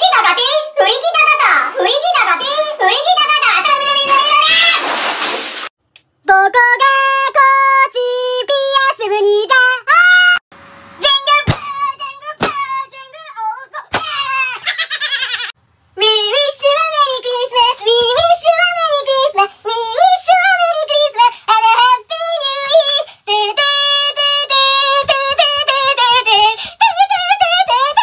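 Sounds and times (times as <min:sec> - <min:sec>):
high-pitched singing voice: 0:00.0 - 0:04.8, 0:06.2 - 0:10.4, 0:11.0 - 0:14.7, 0:16.0 - 0:28.0.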